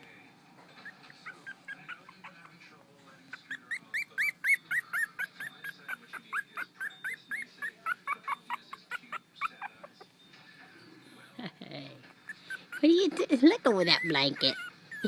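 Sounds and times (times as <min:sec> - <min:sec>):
puppies whimpering: 0:00.6 - 0:11.0, 0:12.0 - 0:15.0.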